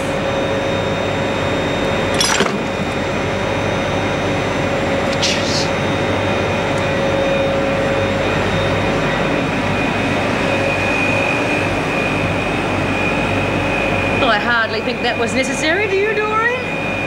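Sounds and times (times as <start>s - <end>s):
low hum: 0.0s - 15.8s
boiler-room machinery roar: 0.0s - 17.0s.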